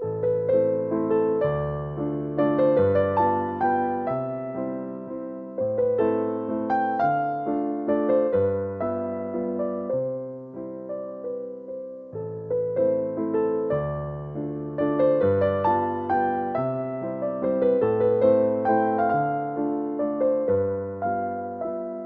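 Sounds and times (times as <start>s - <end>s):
electric piano chords: 0.0s - 22.0s.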